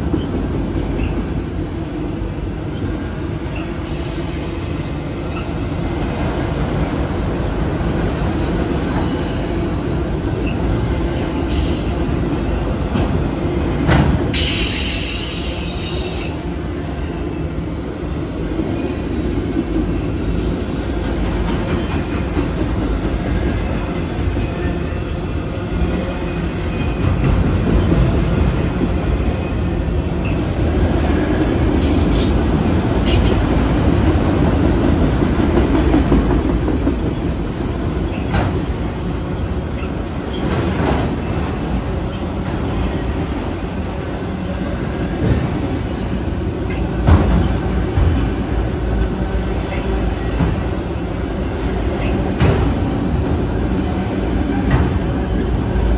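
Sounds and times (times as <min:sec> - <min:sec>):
steel wheels rumbling on rails: 0:00.0 - 0:55.9
sharp train clanks: 0:02.7 - 0:17.6, 0:18.6 - 0:55.9.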